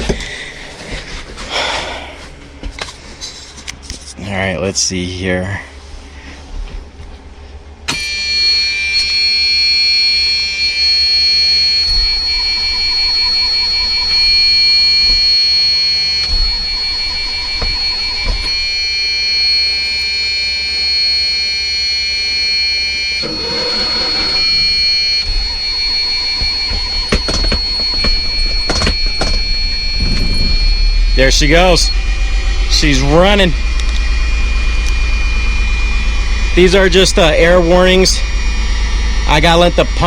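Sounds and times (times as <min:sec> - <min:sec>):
high-pitched warning buzzer: 0:07.9 - 0:40.0.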